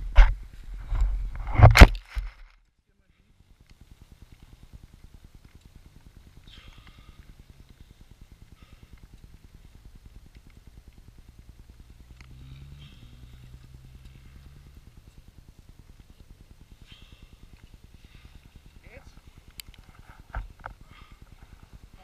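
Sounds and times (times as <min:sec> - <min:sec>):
motocross bike engine idling: 0:02.9 - 0:22.0.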